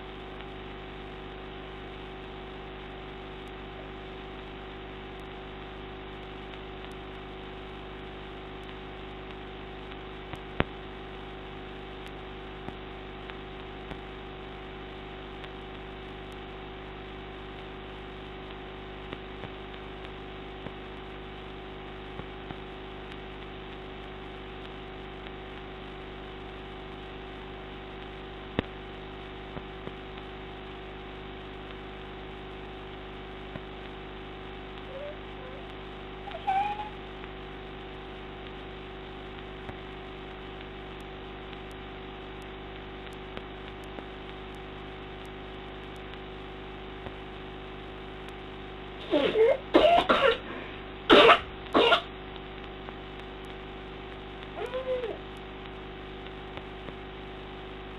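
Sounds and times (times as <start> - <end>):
electrical hum and hiss: 0.0 - 57.9.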